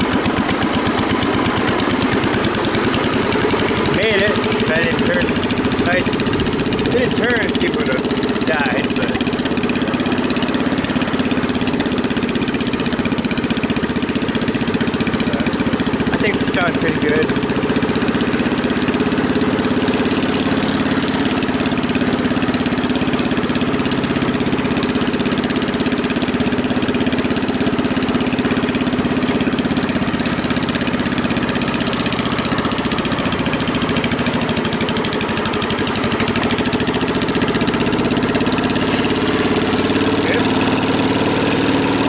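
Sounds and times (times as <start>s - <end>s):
garden tractor engine running: 0.0s - 42.0s.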